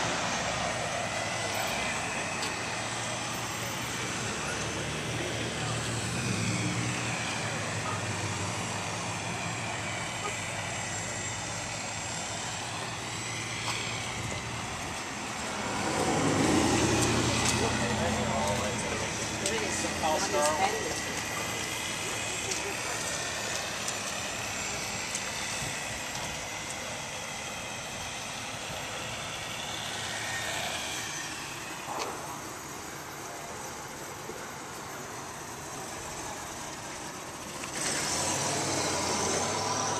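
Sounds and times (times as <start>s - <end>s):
cars passing on city street: 0.0s - 39.9s
low engine drone: 0.0s - 39.9s
traffic noise: 0.0s - 39.9s.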